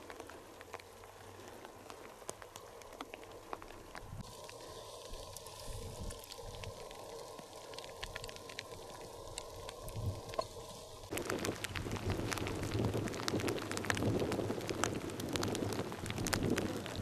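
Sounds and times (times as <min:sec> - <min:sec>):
faint steady hiss: 0:00.0 - 0:17.0
rush of outdoor noise: 0:00.0 - 0:17.0.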